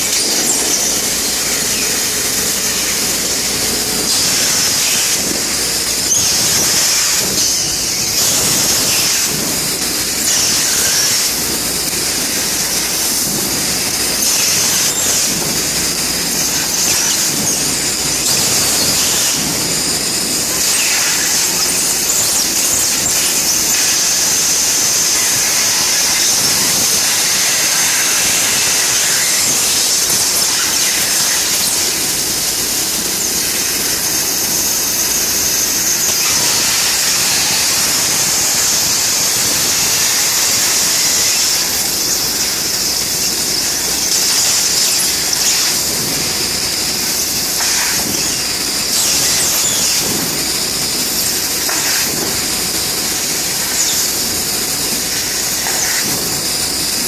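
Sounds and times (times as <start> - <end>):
laser cutting machine hissing: 0.0 - 57.0.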